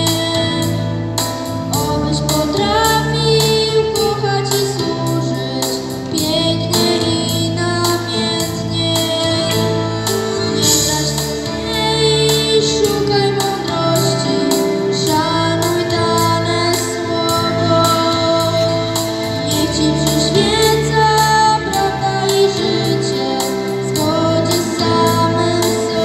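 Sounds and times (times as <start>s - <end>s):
girl singing into microphone: 0.0s - 26.0s
instrumental accompaniment: 0.0s - 26.0s.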